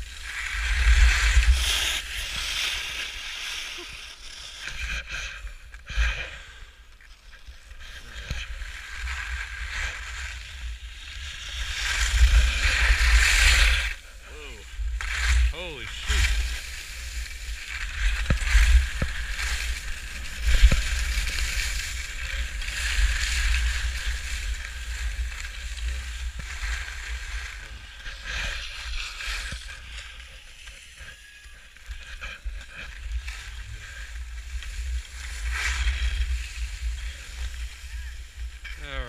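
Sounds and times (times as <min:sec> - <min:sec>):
wind rumbling on microphone: 0:00.0 - 0:04.0, 0:07.9 - 0:39.0
skis scraping over snow: 0:00.0 - 0:39.0.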